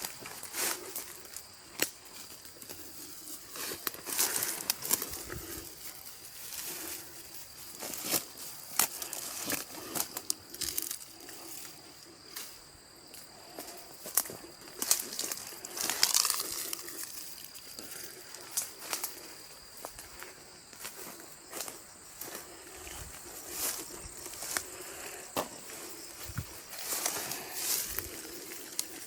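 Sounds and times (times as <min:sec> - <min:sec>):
dry leaves crunching and rustling: 0:00.0 - 0:11.0, 0:14.8 - 0:19.2, 0:20.1 - 0:29.0.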